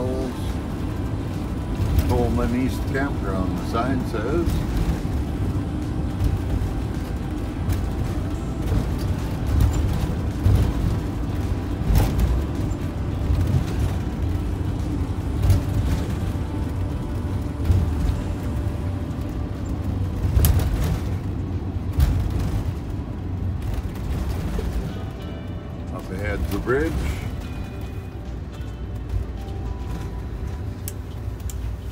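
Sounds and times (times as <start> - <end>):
engine and tyre rumble: 0.0 - 31.9
knocks and rattles: 0.0 - 31.9.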